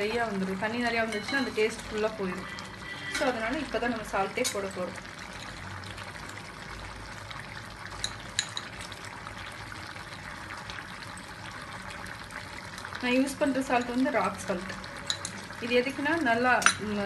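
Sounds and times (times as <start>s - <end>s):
curry bubbling and sizzling: 0.0s - 17.0s.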